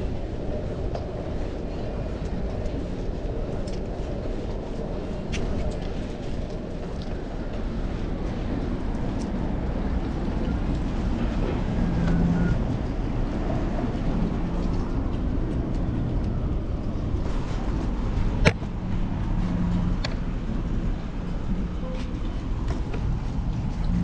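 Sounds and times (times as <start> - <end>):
road and traffic noise: 0.0 - 24.0.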